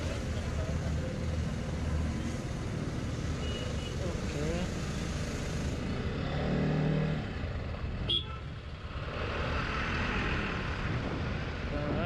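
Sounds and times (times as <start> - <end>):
heavy trucks traffic noise: 0.0 - 12.0
motorcycle engine and road rumble: 0.0 - 12.0.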